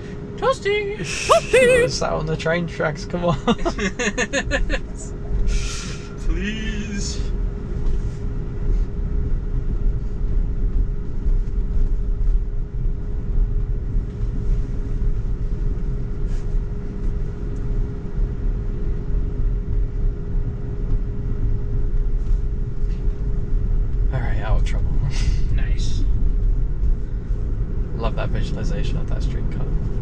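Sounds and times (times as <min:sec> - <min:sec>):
faint steady hum: 0:00.0 - 0:30.0
road and tyre rumble: 0:00.0 - 0:30.0.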